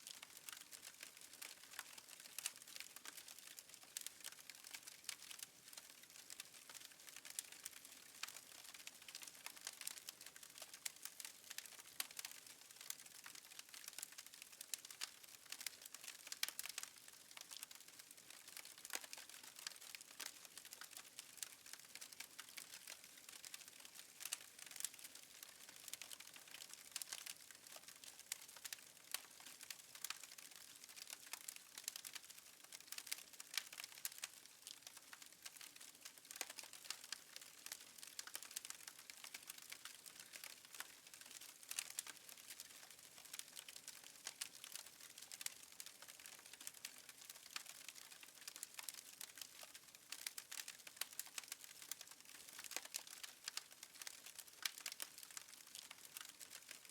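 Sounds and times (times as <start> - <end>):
wood fire crackling: 0.2 - 56.9.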